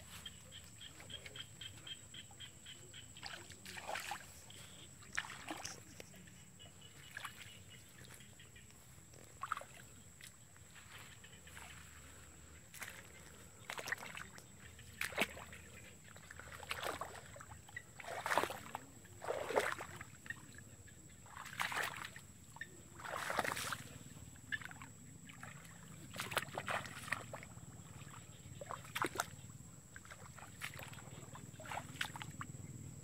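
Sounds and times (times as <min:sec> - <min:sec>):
bare feet splashing through water: 0:03.0 - 0:32.5.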